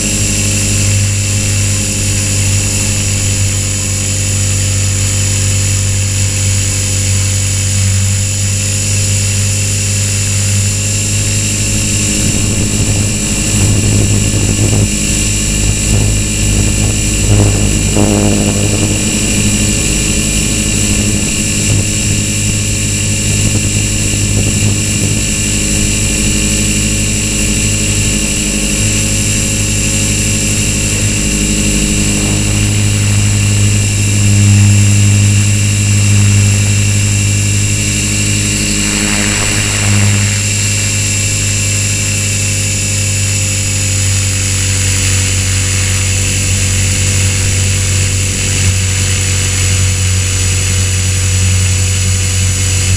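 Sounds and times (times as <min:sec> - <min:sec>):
electric motor whine: 0:00.0 - 0:52.9
helicopter rotor blades humming: 0:00.0 - 0:52.9.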